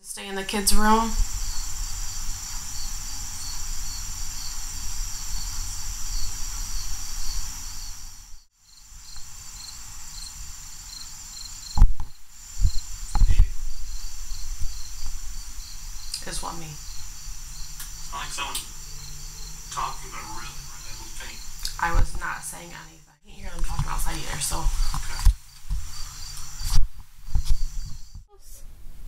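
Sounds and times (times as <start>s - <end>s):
high continuous insect trill: 0.2s - 28.3s
insects chirping: 0.2s - 28.3s.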